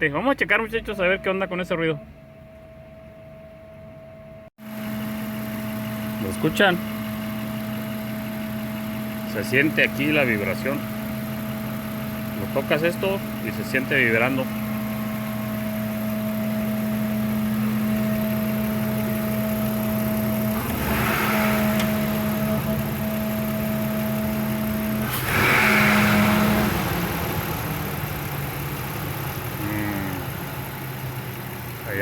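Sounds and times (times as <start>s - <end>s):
car engine idling: 4.6s - 32.0s.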